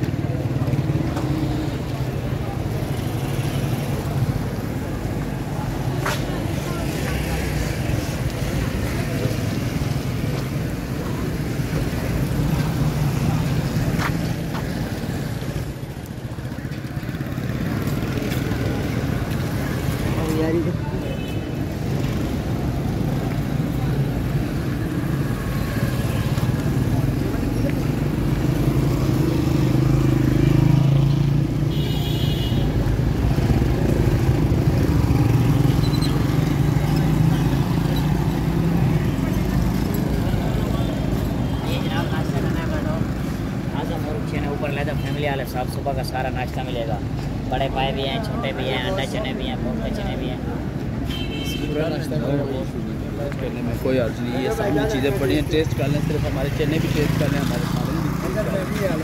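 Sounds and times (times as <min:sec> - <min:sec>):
motorcycle engines passing: 0:00.0 - 0:59.0.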